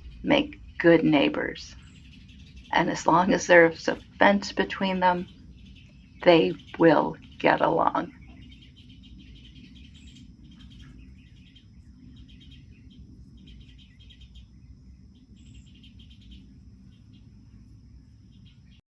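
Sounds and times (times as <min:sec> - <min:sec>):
low background rumble: 0:00.0 - 0:18.8
small birds chirping in trills: 0:00.0 - 0:18.8.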